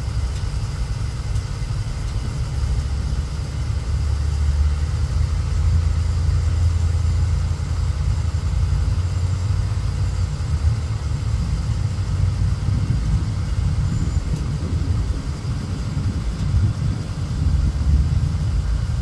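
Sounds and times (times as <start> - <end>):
jet airliner low rumble: 0.0 - 19.0.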